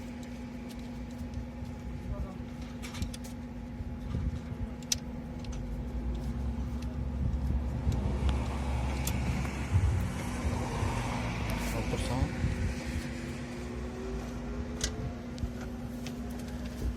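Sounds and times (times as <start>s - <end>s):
car engine rumbling: 0.0s - 16.9s.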